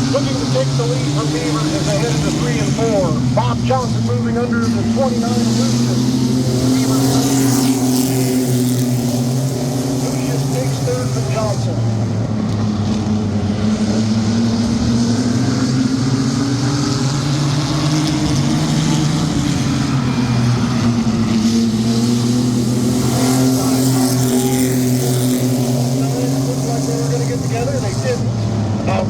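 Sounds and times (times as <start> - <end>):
racing truck engines droning: 0.0 - 29.0.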